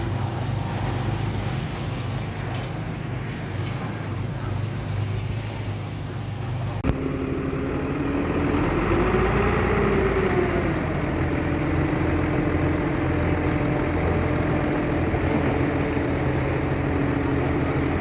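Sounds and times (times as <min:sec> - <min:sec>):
diesel engine of earthmoving machine: 0:00.0 - 0:18.0.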